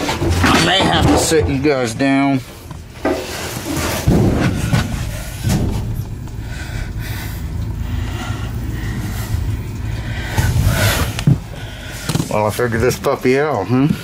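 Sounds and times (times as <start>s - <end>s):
generator engine droning: 2.4s - 14.0s.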